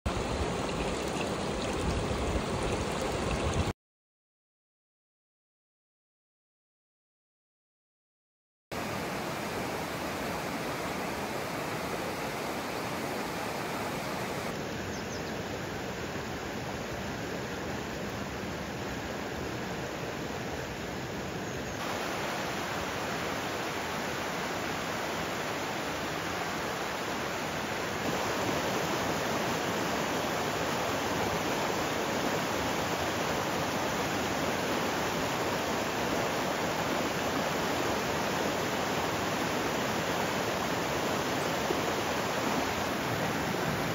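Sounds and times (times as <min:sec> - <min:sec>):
stream rushing over rocks: 0:00.1 - 0:03.7, 0:08.8 - 0:43.9.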